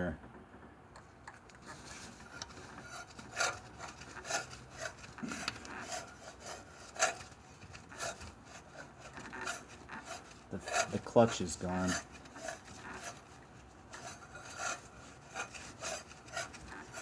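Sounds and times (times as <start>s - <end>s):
compressor clutch scraping grind: 1.3s - 17.0s.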